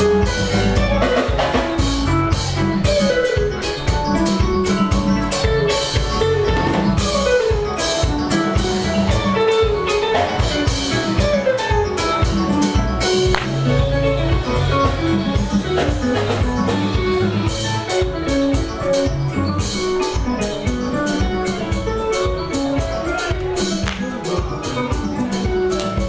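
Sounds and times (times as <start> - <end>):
music with drum beat: 0.0 - 26.0.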